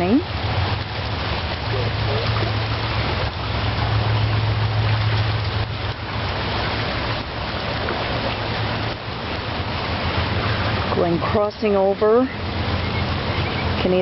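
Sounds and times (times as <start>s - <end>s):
floodwater rushing: 0.0s - 14.0s
low hum: 0.0s - 14.0s.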